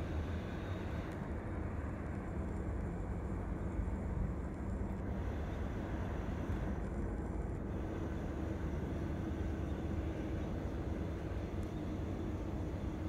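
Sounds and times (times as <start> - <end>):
faint steady hum: 0.0 - 13.0
jet engines rumbling on runway: 0.0 - 13.0.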